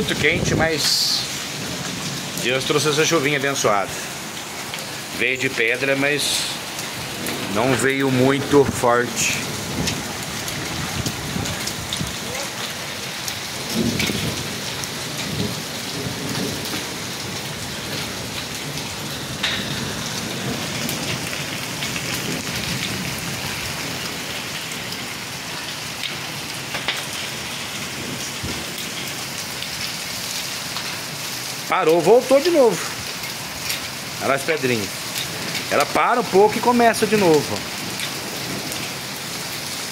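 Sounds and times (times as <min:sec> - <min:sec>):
hailstones ticking on paving: 0:00.0 - 0:39.9
rain hissing: 0:00.0 - 0:39.9.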